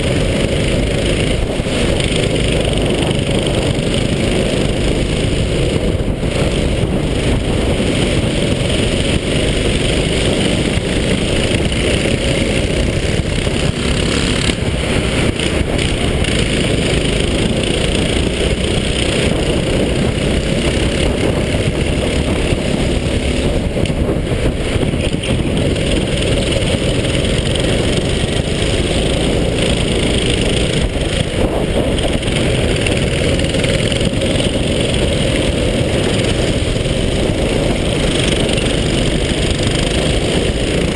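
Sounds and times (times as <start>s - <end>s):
go-kart engine rumble: 0.0s - 40.9s
wind rush: 0.0s - 40.9s.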